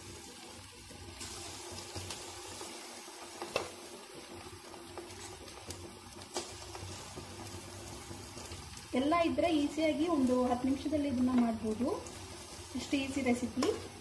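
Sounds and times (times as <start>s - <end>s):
chicken frying in hot oil: 0.0s - 14.0s.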